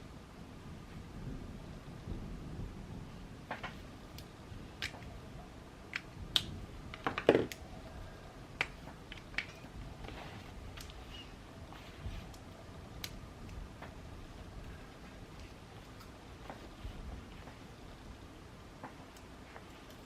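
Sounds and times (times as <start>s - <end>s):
rain rumble: 0.0s - 20.0s.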